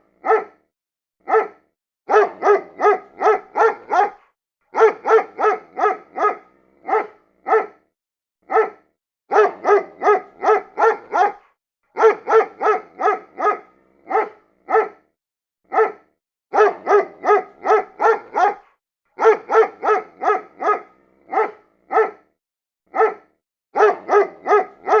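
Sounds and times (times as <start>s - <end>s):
dog barking: 0.1s - 15.1s, 15.7s - 25.0s.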